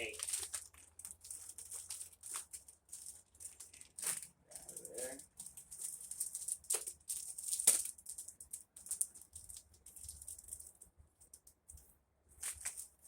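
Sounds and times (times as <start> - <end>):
packaging crinkling and rattling: 0.0 - 11.8, 12.4 - 13.0.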